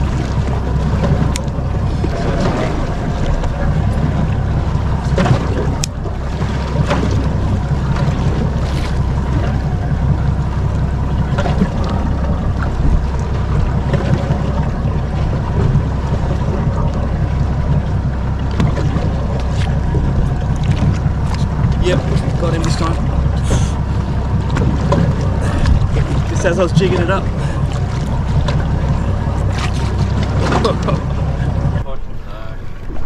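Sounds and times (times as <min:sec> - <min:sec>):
steady low rumble: 0:00.0 - 0:33.0
water slapping boat hull: 0:00.0 - 0:33.0
wind buffeting microphone: 0:00.0 - 0:33.0.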